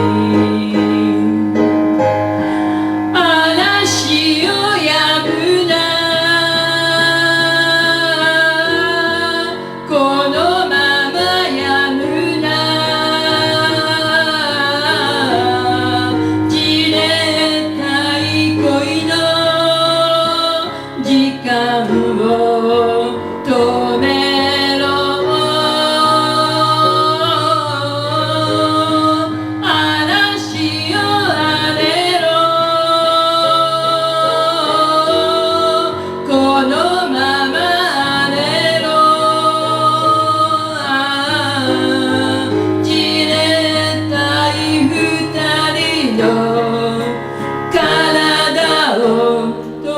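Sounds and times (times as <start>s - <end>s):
woman singing: 0.0s - 1.8s, 3.1s - 49.9s.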